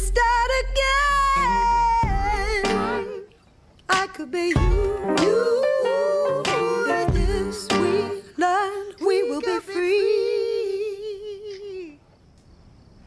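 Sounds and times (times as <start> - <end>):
high solo singing voice: 0.0 - 12.0.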